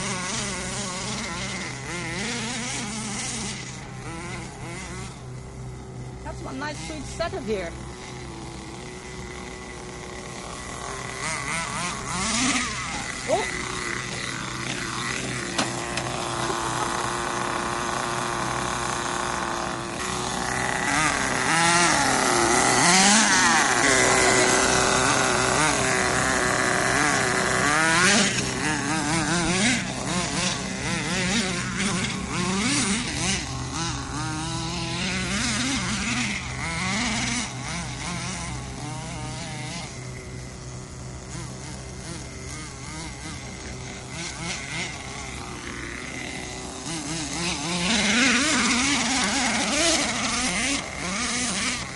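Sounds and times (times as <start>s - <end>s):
rc nitro engine revving: 0.0s - 51.9s.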